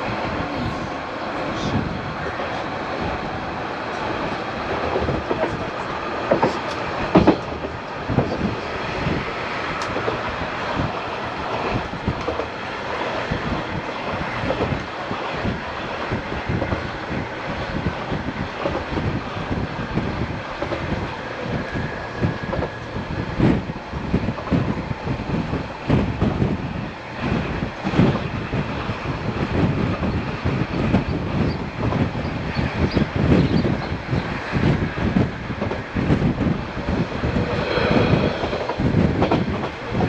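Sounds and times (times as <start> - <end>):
train wheel and rail rumble: 0.0 - 40.0.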